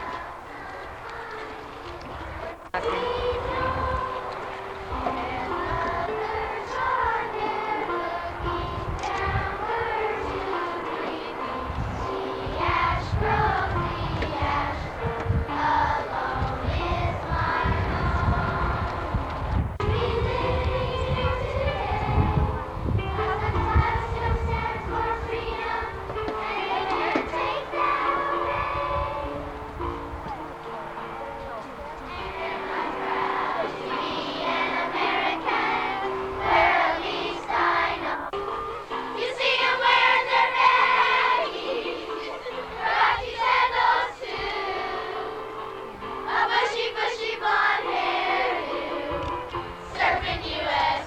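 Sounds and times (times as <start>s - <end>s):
children singing: 0.0s - 29.5s, 32.0s - 51.0s
musical accompaniment: 0.0s - 51.0s.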